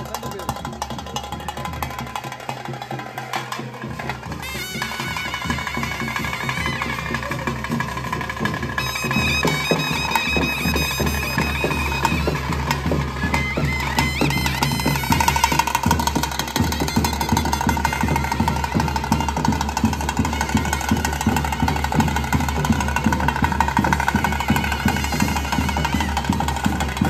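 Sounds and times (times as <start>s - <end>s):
fast drumming: 0.0s - 27.0s
reed wind instrument melody: 3.8s - 27.0s.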